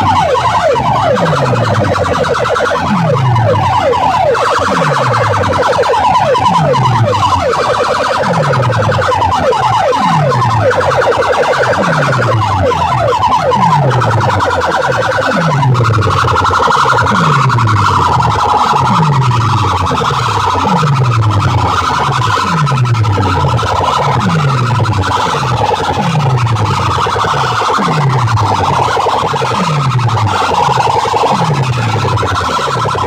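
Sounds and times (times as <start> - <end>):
electronic siren effects: 0.0 - 33.0.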